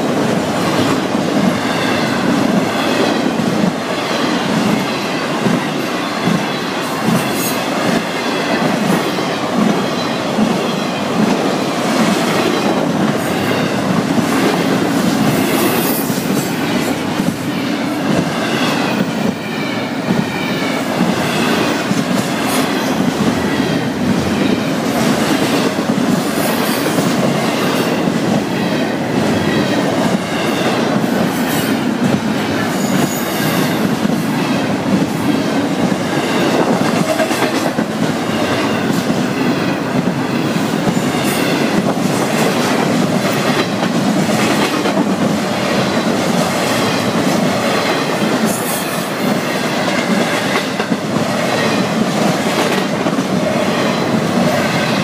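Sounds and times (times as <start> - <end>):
train wheels clattering over rail: 0.0 - 55.0.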